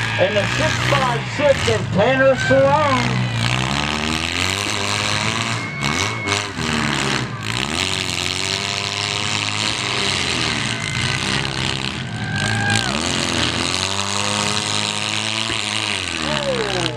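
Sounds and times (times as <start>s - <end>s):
car engines revving: 0.0s - 16.9s.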